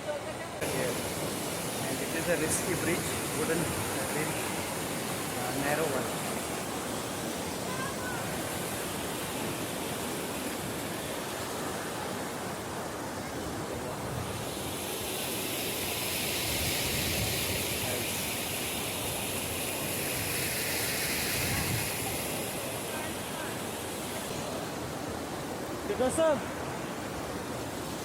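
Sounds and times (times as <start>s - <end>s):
fast-flowing stream rushing: 0.0s - 28.0s.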